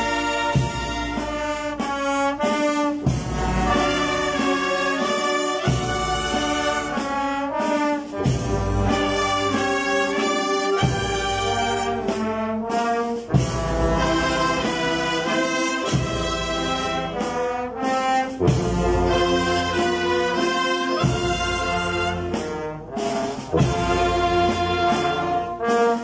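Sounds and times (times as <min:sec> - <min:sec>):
wind band playing slow march: 0:00.0 - 0:26.0.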